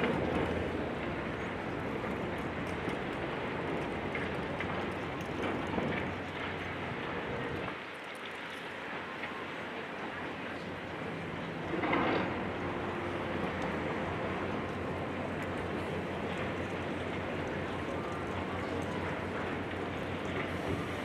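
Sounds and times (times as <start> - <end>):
large engine humming: 0.0 - 7.7, 10.4 - 21.0.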